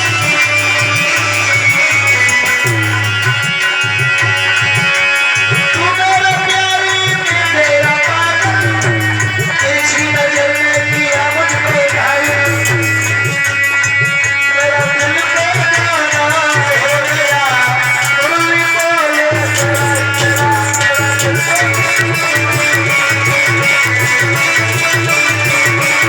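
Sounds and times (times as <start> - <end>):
devotional music melody: 0.0 - 26.0
fast percussion strokes: 0.0 - 26.0.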